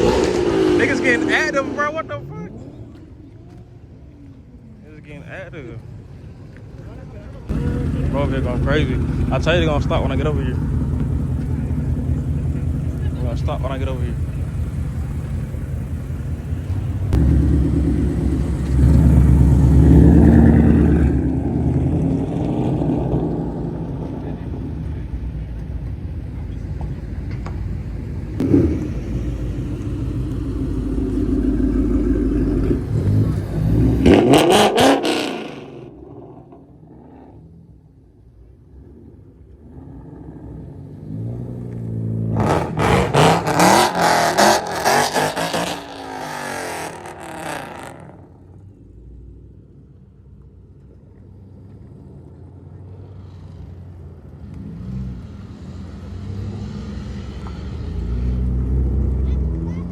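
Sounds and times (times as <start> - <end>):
car engines revving hard: 0.0 - 3.6, 6.8 - 49.3, 51.7 - 59.9
engine rumble: 0.0 - 59.9.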